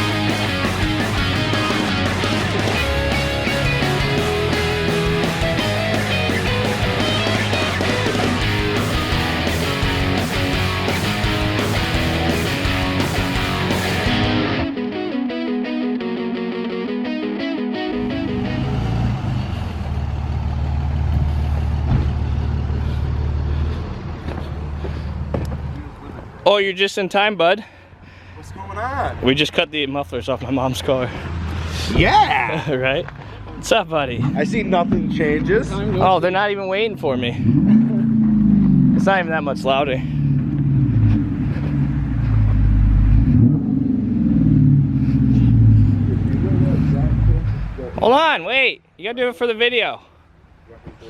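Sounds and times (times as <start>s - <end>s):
vehicle engine droning: 0.0s - 14.8s, 17.9s - 26.4s, 27.6s - 48.0s.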